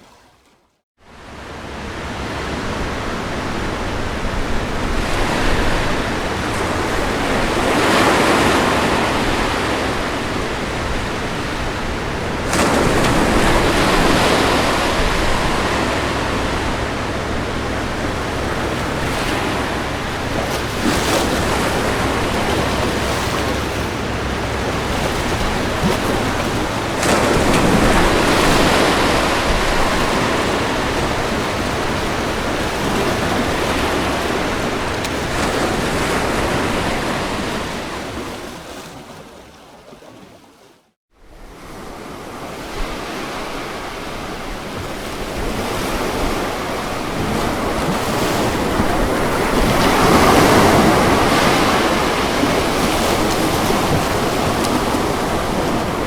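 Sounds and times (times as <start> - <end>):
ocean waves on shore: 0.0 - 56.0.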